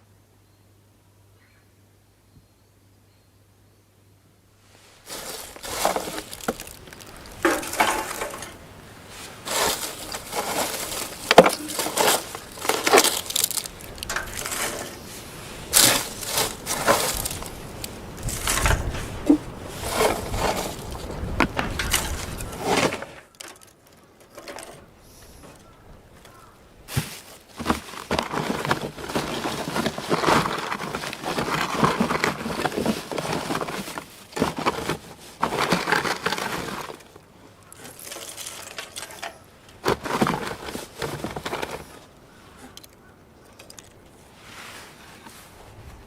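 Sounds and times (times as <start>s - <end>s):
crunching and cracking of breaking things: 5.0s - 8.8s, 9.4s - 24.9s, 25.5s - 44.0s.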